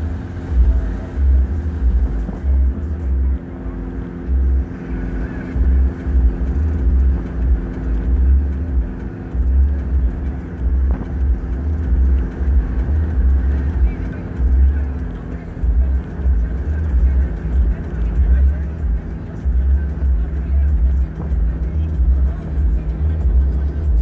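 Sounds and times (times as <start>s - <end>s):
heavy low rumble: 0.0s - 24.0s
vehicle engine hum and road noise: 0.0s - 24.0s.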